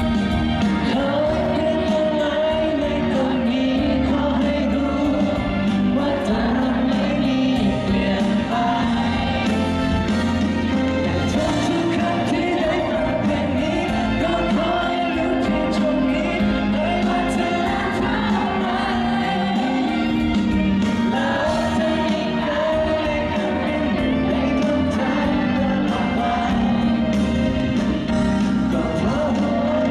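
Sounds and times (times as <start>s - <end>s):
instrumental backing: 0.0s - 29.9s
lead vocalist singing: 0.0s - 29.9s.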